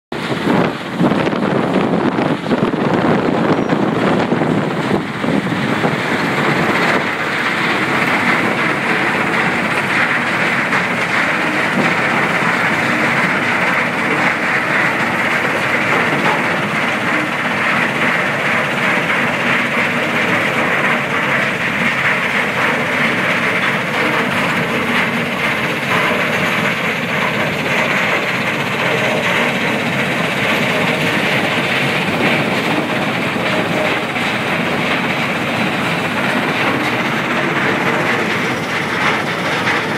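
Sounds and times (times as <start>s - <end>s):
crushing plant mechanical din: 0.2s - 39.9s.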